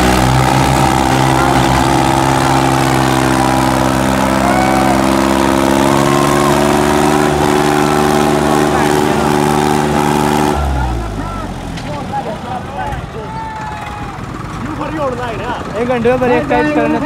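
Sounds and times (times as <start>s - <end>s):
diesel tractor engines under load: 0.0s - 17.0s.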